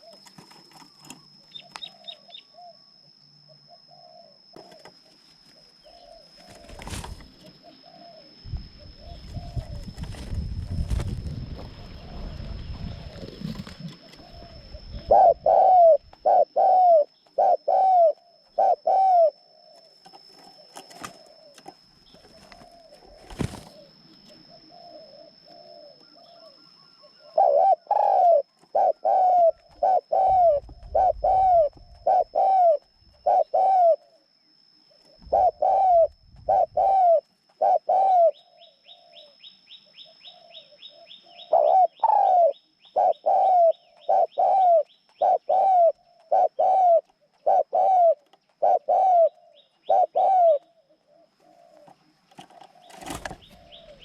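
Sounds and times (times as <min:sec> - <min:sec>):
caged bird calling: 0:00.0 - 0:54.0
faint high whine: 0:00.0 - 0:54.0.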